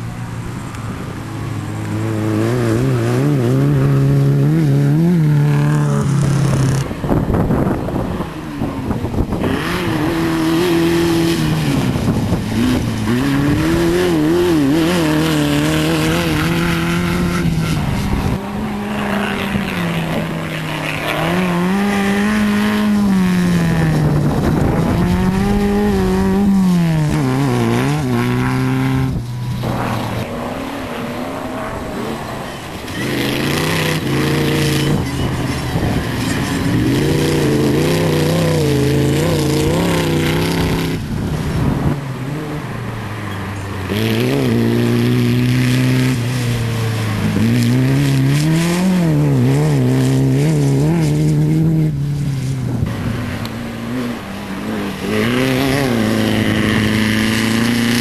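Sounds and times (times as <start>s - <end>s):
racing buggy engines revving: 0.0s - 58.0s.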